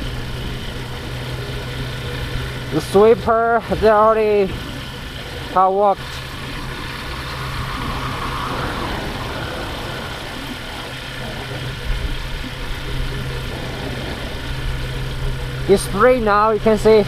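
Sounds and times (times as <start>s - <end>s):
motorbike engine humming: 0.0s - 17.0s
wind and road noise: 0.0s - 17.0s.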